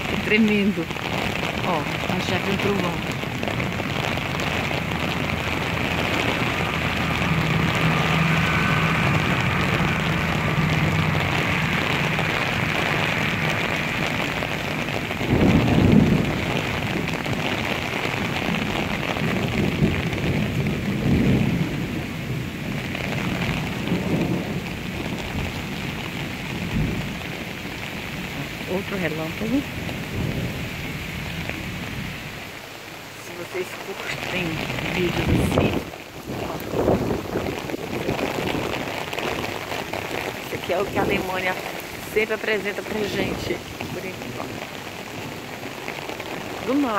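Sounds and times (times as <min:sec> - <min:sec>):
heavy rain on an umbrella: 0:00.0 - 0:46.9
thunder rumbling: 0:00.0 - 0:46.9.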